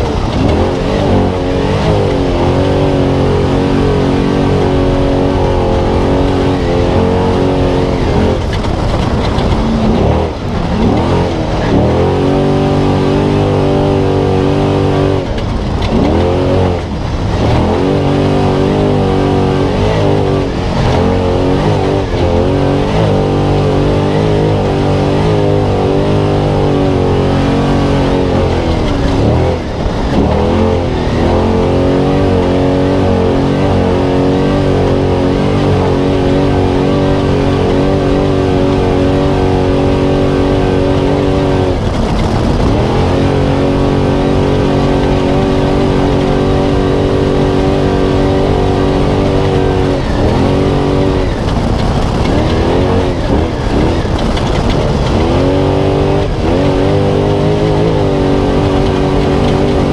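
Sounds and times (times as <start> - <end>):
truck engine at high revs: 0.0 - 59.9.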